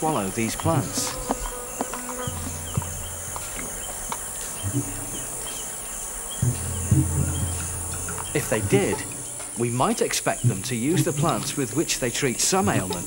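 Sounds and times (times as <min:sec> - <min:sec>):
insect chirps: 0:00.0 - 0:13.0
insects buzzing: 0:00.0 - 0:13.0
low steady hum: 0:00.0 - 0:13.0.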